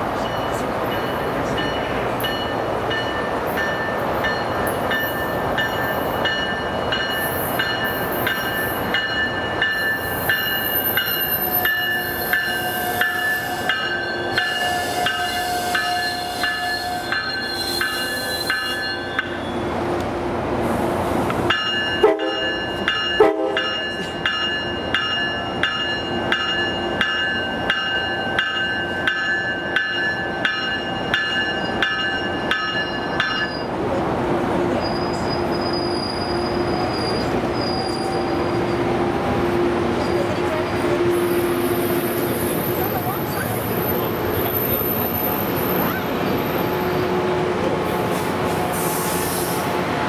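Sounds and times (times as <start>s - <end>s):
steady train hum: 0.0s - 50.0s.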